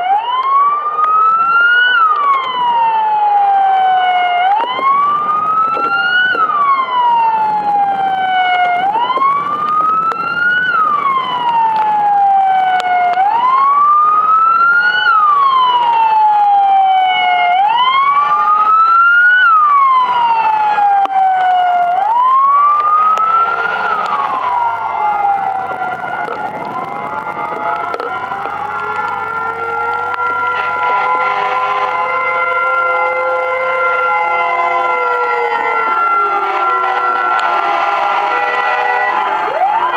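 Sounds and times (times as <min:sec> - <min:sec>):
emergency siren wailing: 0:00.0 - 0:39.9.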